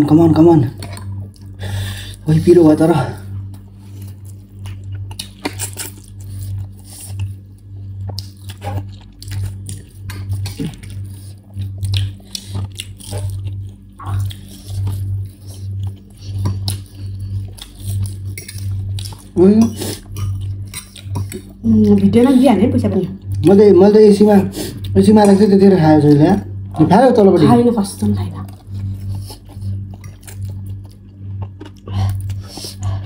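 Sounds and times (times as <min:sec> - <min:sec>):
people chewing and slurping noodles: 0:00.0 - 0:33.0.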